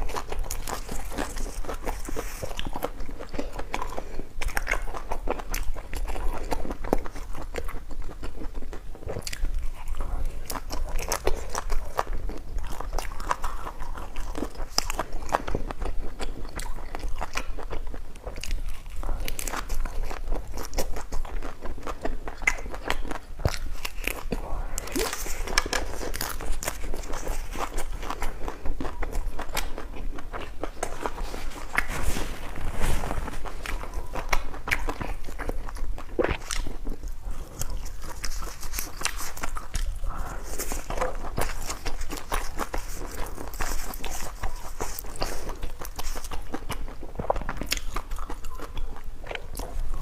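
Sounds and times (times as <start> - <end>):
person chewing crunchy food: 0.0 - 50.0.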